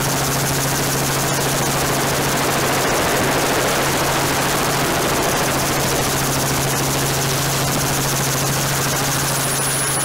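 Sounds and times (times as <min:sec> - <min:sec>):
helicopter rotor chop: 0:00.0 - 0:10.0
thin high whine: 0:01.2 - 0:10.0.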